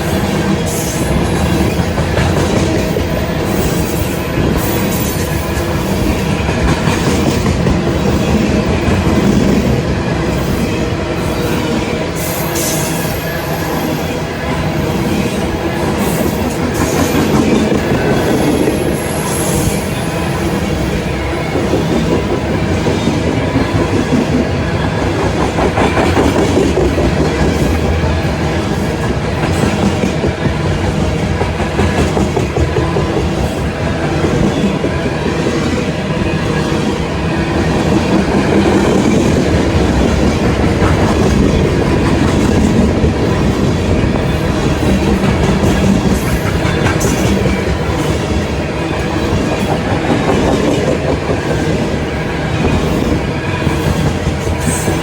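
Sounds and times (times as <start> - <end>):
train wheels clattering on track: 0.0 - 55.0.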